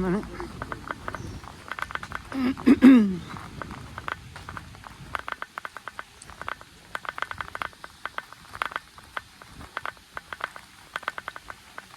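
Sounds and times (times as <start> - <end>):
light ticking and pattering taps: 0.0 - 11.9.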